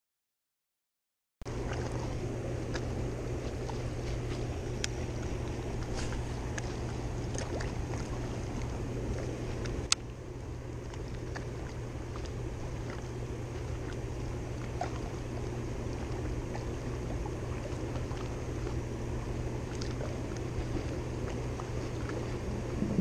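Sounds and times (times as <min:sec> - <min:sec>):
low hum: 0:01.5 - 0:23.0
water noise: 0:01.5 - 0:23.0.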